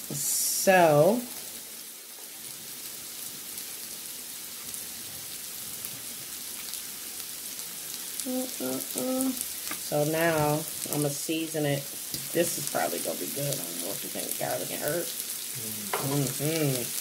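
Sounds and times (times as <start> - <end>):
food sizzling on grill: 0.0 - 17.0.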